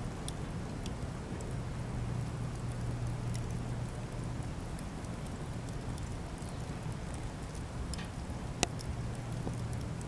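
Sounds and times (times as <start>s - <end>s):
campfire rustling: 0.0s - 10.0s
fire crackling: 0.0s - 10.0s.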